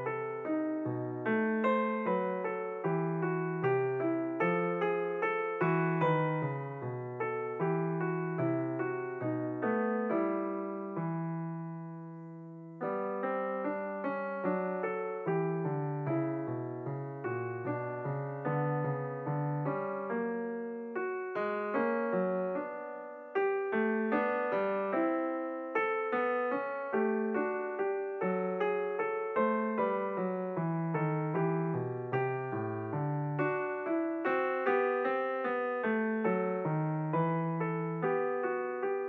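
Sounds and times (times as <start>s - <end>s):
slow piano music: 0.0s - 39.0s.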